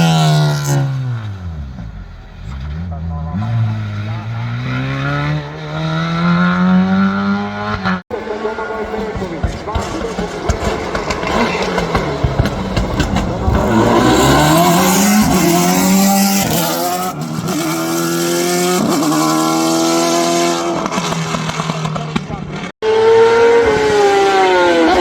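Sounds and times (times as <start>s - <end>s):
race car engine accelerating: 0.0s - 25.0s.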